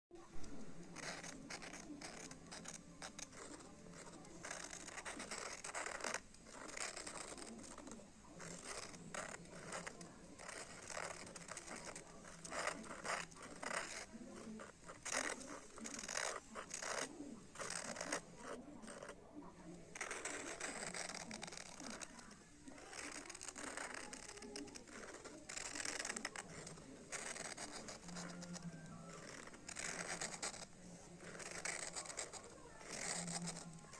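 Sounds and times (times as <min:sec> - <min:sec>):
pencil scratching on paper: 0:00.1 - 0:33.9.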